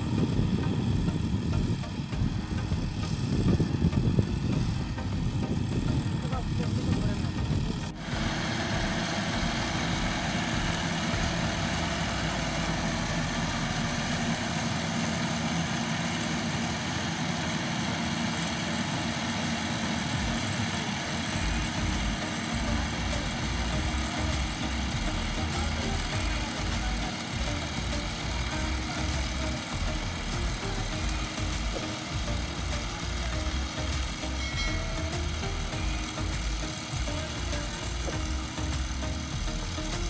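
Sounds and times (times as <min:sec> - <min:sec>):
harvesting machine engine running: 0:00.0 - 0:40.0.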